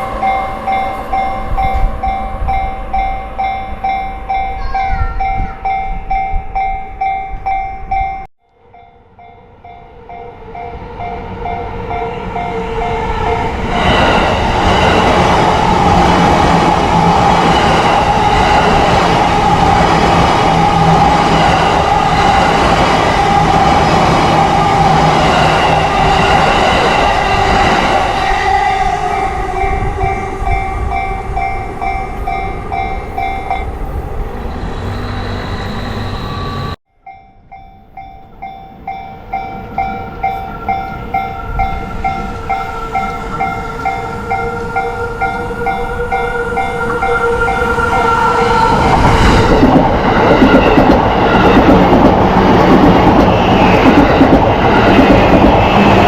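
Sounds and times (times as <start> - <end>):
train passing with rushing rumble: 0.0 - 56.0.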